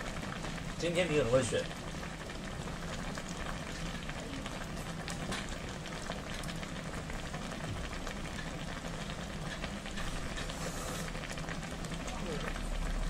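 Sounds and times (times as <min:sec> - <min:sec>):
broth boiling in a pot: 0:00.0 - 0:13.0.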